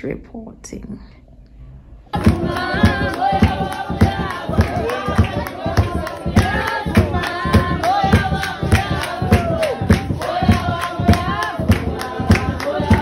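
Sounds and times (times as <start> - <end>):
group of voices singing: 2.1 - 13.0
steady drumbeat: 2.2 - 13.0.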